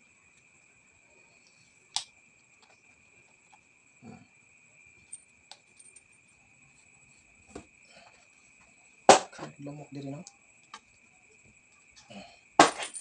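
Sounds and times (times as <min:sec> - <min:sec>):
faint high-pitched whine: 0:00.0 - 0:13.0.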